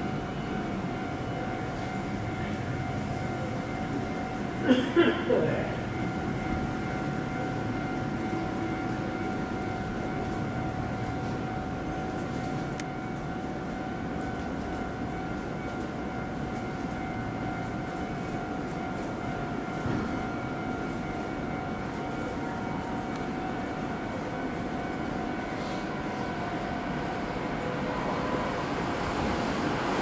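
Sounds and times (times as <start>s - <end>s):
electric train rumble and whine: 0.0s - 30.0s.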